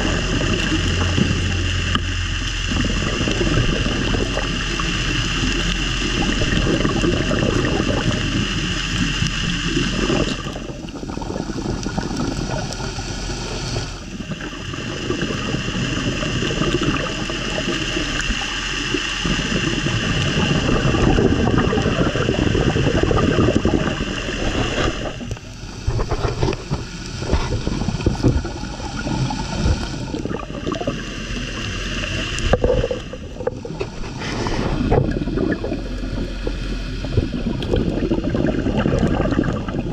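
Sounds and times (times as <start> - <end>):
high hum: 0.0 - 39.9
underwater rumble and bubbles: 0.0 - 39.9.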